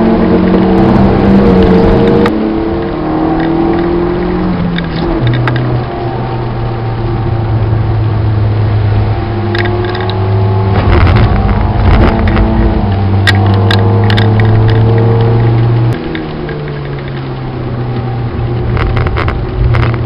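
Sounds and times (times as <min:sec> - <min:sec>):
car engine at high revs: 0:00.0 - 0:20.0.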